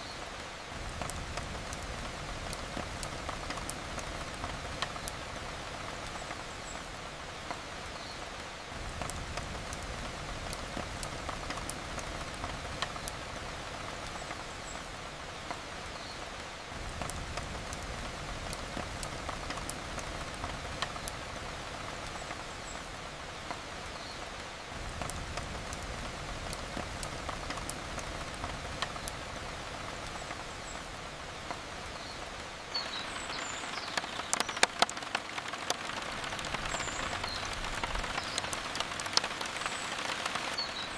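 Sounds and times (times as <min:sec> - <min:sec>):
steady rain falling: 0:00.0 - 0:40.9
wood fire crackling: 0:00.0 - 0:40.9.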